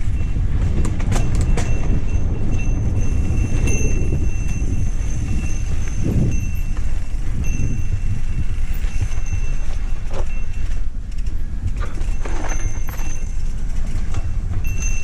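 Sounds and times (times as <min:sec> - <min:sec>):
bike tyres rattling over ground: 0:00.0 - 0:15.0
wind on microphone: 0:00.0 - 0:15.0.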